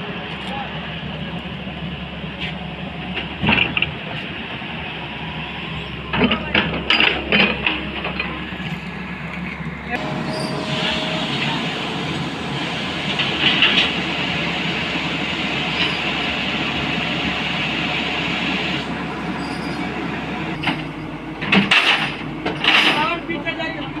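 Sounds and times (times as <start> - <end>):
excavator engine and hydraulics: 0.0 - 24.0.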